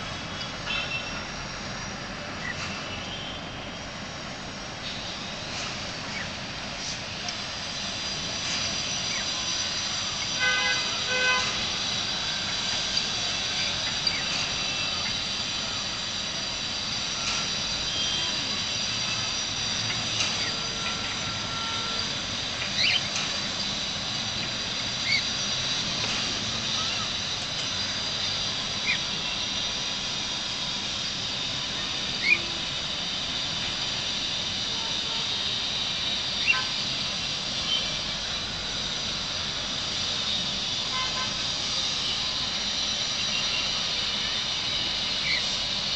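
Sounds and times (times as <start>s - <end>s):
high-pitched whine: 0.0s - 45.9s.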